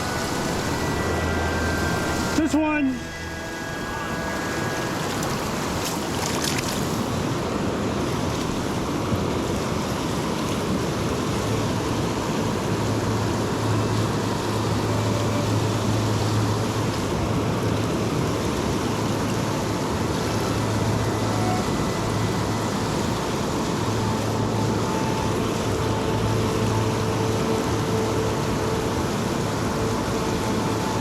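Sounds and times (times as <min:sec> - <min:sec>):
flowing river water: 0:00.0 - 0:31.0
low steady hum: 0:00.0 - 0:31.0.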